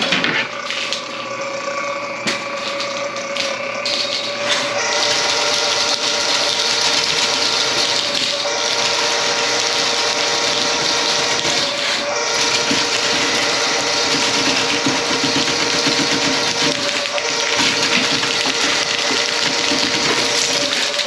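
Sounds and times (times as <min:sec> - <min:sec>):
drain-cleaning machine running: 0:00.0 - 0:21.0.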